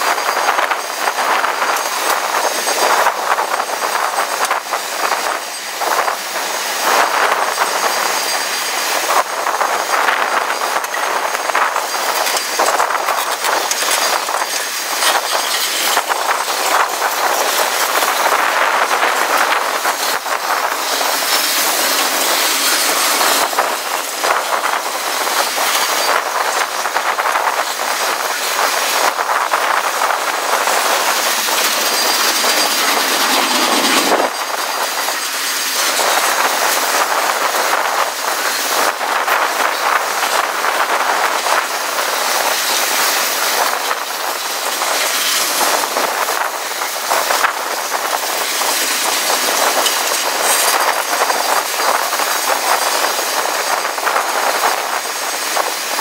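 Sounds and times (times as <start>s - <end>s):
train wheels rumbling on rail: 0.0s - 56.0s
wheels clicking over rail joints: 0.0s - 56.0s.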